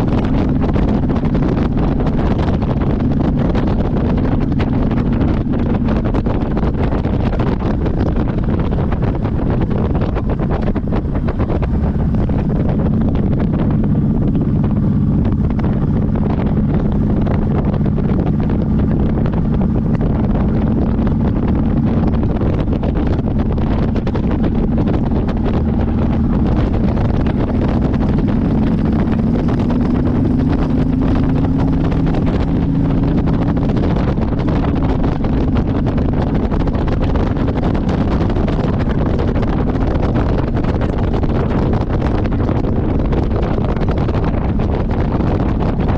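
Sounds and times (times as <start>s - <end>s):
motorcycle engine cruising: 0.0s - 45.9s
wind on microphone: 0.0s - 45.9s.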